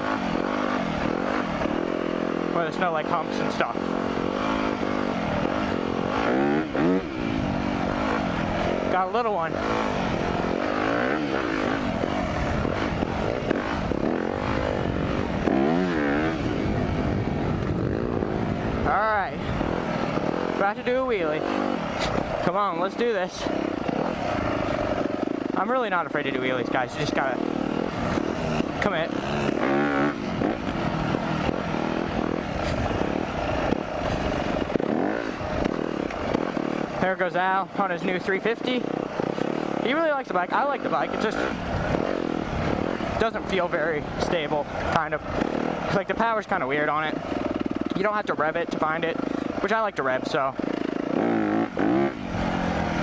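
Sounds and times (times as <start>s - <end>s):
wind rushing over microphone: 0.0s - 25.5s, 26.3s - 48.0s
dirt bike engine revving: 0.0s - 53.0s.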